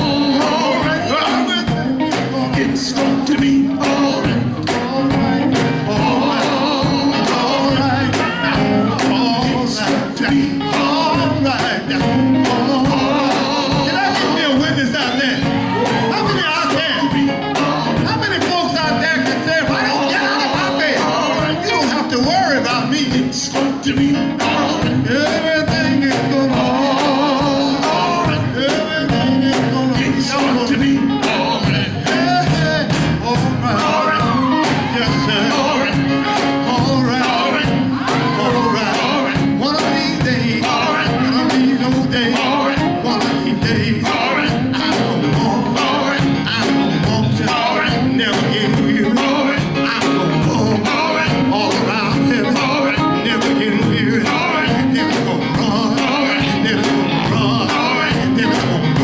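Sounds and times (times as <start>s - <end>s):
band with drums: 0.0s - 59.0s
voices singing: 0.0s - 59.0s.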